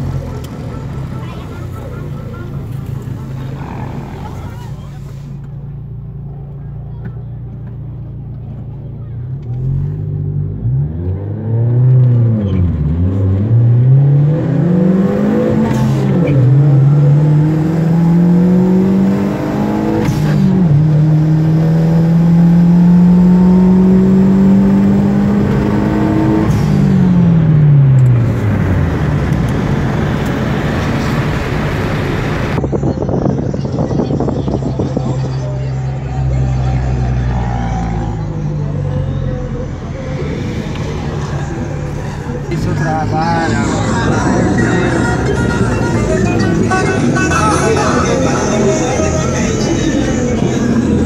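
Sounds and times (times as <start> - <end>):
car engine revving and accelerating: 0.0 - 7.0, 7.6 - 51.0.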